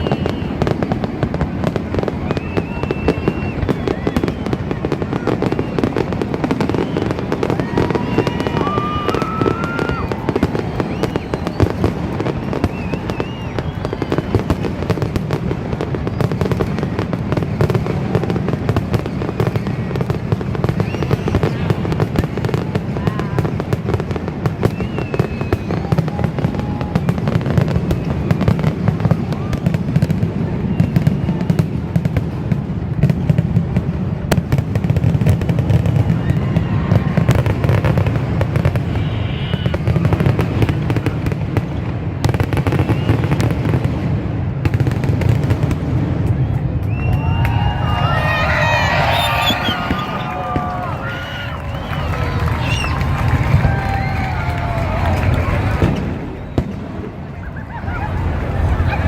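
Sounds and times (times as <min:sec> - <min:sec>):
fireworks banging and crackling: 0:00.0 - 0:59.0.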